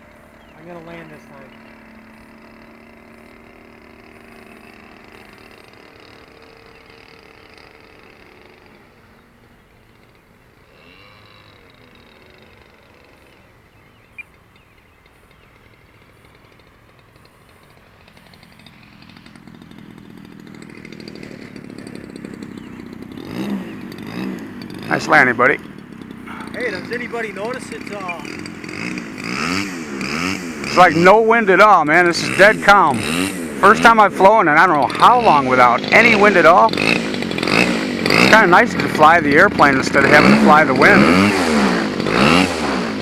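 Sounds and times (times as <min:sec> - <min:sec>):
model airplane motor droning: 0:00.0 - 0:43.0.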